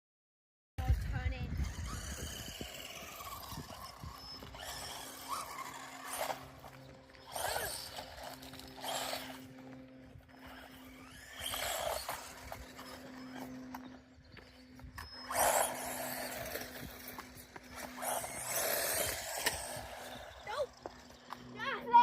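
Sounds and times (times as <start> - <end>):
radio-controlled cars driving: 0.8 - 22.0
steady low hum: 0.8 - 22.0.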